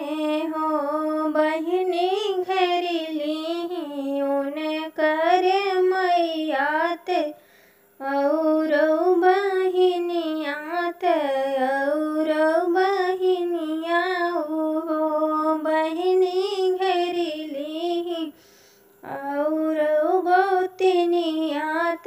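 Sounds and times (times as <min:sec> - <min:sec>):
woman singing: 0:00.0 - 0:07.4, 0:08.0 - 0:18.4, 0:19.0 - 0:22.0.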